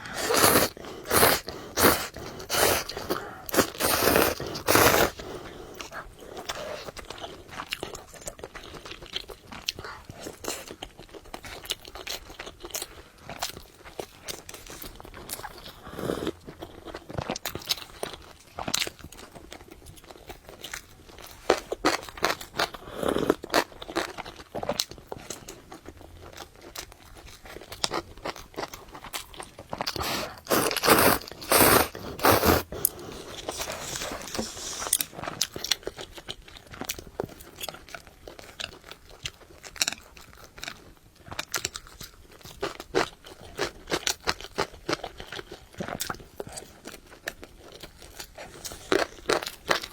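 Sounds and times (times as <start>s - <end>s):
person chewing and crunching: 0.0s - 49.9s.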